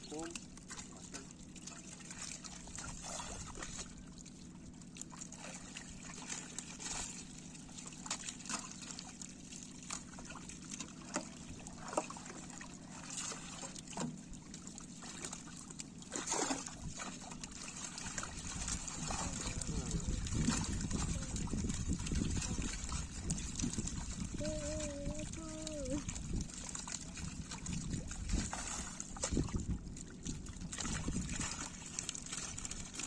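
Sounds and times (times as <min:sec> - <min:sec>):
pond water sloshing: 0:00.0 - 0:33.0
short splashes: 0:00.0 - 0:33.0
steady low hum: 0:00.0 - 0:33.0.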